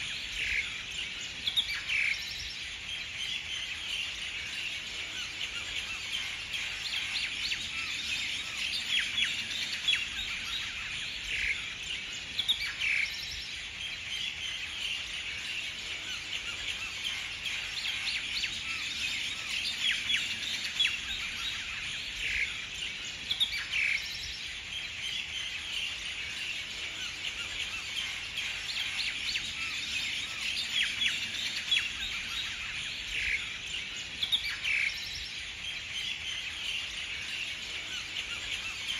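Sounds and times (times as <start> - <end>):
birds chirping and calling: 0.0 - 38.9.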